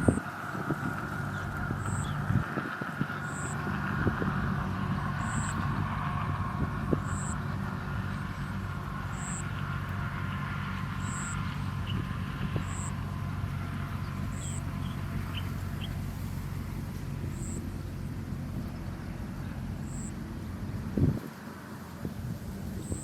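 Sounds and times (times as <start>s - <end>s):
low engine-like rumble: 0.0s - 23.0s.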